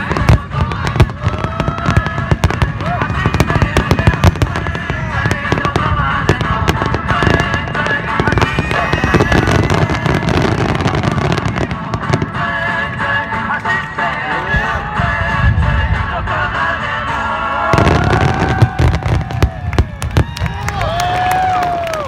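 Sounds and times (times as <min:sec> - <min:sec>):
fireworks deep booms: 0:00.0 - 0:13.6, 0:14.5 - 0:16.9, 0:17.7 - 0:21.0
music playing: 0:00.0 - 0:19.9
fireworks crackling and popping: 0:00.0 - 0:22.0.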